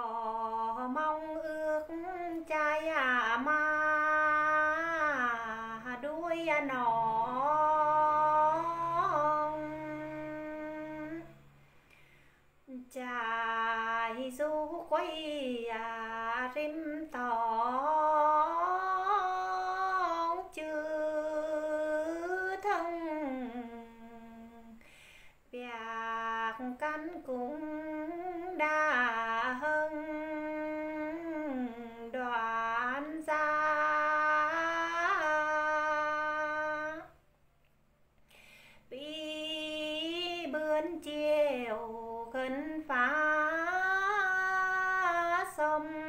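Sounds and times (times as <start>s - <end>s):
woman singing unaccompanied: 0.0s - 11.5s, 12.6s - 37.2s, 38.8s - 46.0s.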